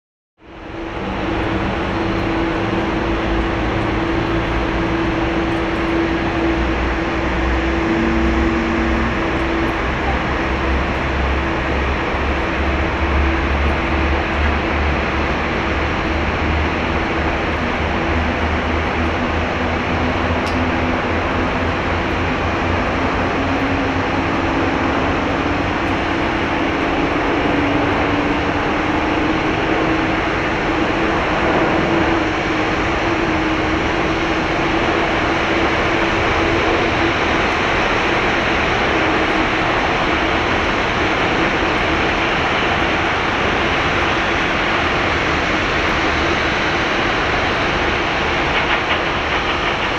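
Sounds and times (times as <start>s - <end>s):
jet engines running: 0.4s - 49.9s.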